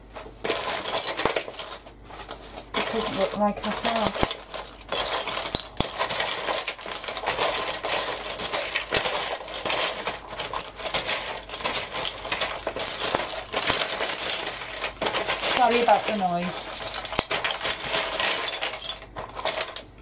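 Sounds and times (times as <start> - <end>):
small hard items clattering: 0.2 - 20.0.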